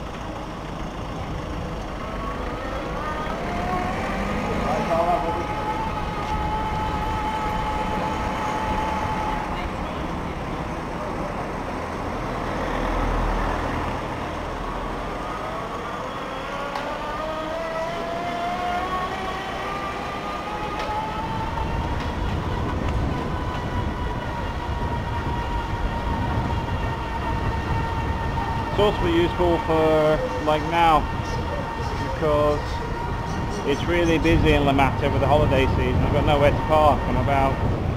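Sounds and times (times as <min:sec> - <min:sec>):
wind and road noise: 0:00.0 - 0:37.9
electric bike motor whining: 0:02.2 - 0:10.0, 0:15.1 - 0:37.9.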